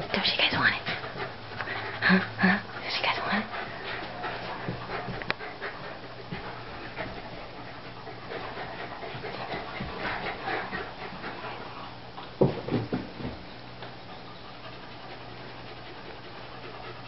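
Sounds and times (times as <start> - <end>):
dogs panting: 0.0 - 17.0
dogs scuffling: 2.8 - 16.6.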